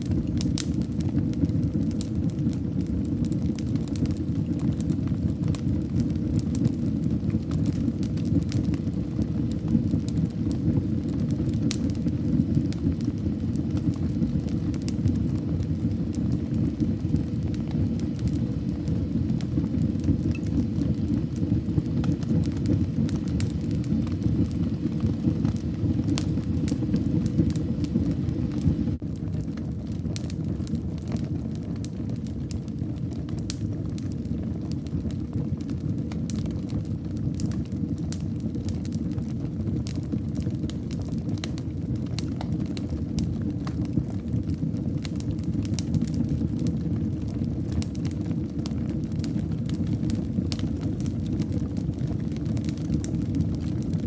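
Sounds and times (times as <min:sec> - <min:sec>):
fire popping and snapping: 0:00.0 - 0:54.0
low rumble of flames: 0:00.0 - 0:54.0.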